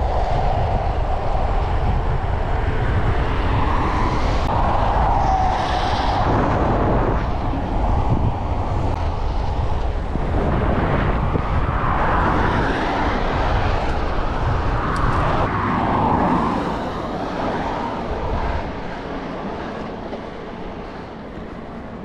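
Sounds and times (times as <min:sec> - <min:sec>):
cars and vans passing: 0:00.0 - 0:22.0
wind buffeting microphone: 0:00.0 - 0:22.0.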